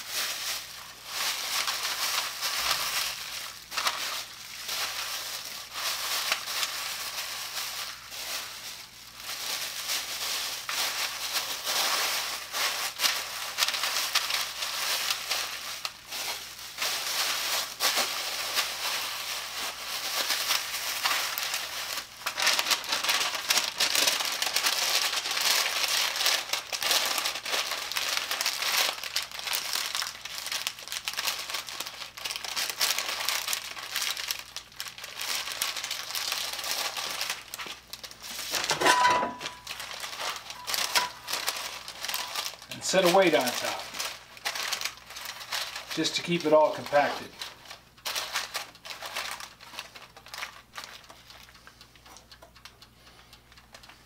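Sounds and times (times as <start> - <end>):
plastic bags crinkling: 0.0 - 54.0.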